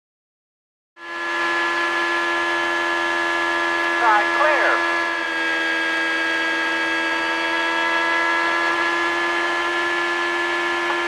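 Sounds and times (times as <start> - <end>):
racing car engine at high revs: 1.0 - 11.0.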